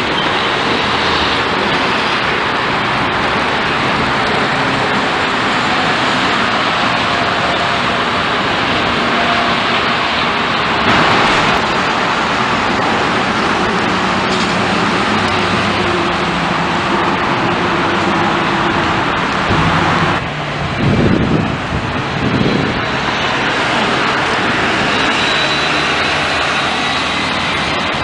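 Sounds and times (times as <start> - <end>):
road traffic passing: 0.0 - 28.0
vehicle passing loudly: 0.0 - 28.0.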